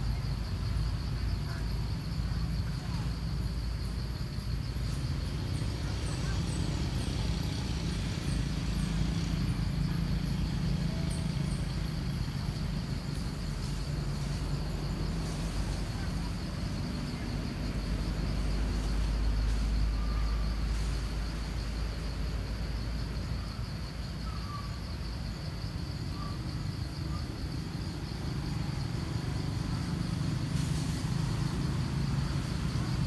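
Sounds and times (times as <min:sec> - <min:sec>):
insect trill: 0:00.0 - 0:33.0
low engine-like rumble: 0:00.0 - 0:33.0.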